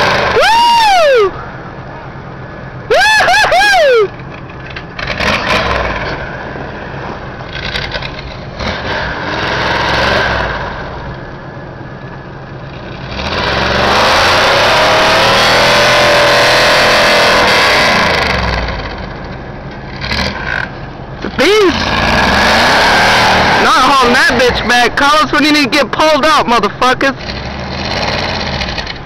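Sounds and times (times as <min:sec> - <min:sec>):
truck engine revving: 0:00.0 - 0:00.6, 0:03.2 - 0:29.0.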